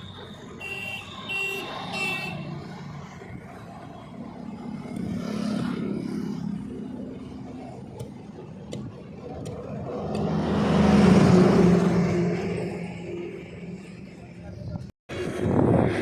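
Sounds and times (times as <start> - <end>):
vehicle passing: 1.6 - 16.0.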